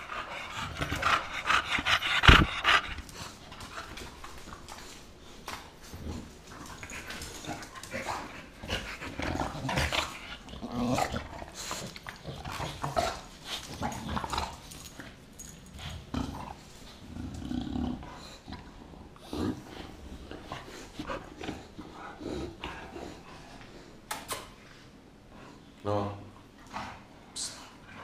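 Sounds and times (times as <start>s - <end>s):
dogs growling: 0.0s - 4.7s, 5.8s - 24.0s
dogs mouthing and scuffling: 0.0s - 24.6s.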